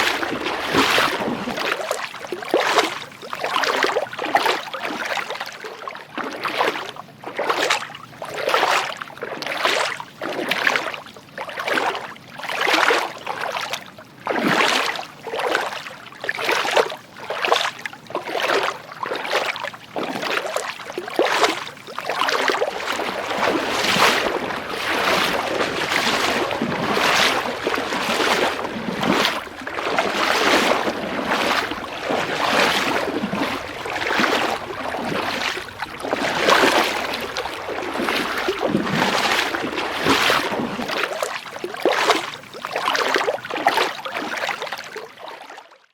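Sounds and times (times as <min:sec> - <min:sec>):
footsteps splashing through water: 0:00.0 - 0:45.6.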